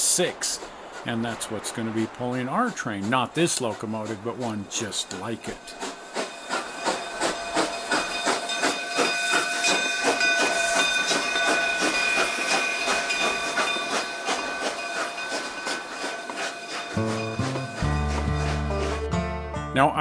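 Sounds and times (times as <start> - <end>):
steam locomotive hissing steam: 0.0 - 19.0.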